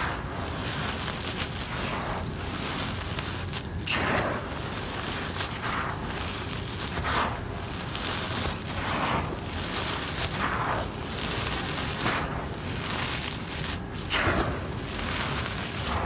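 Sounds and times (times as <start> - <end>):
cement powder pouring by hand: 0.0 - 16.0.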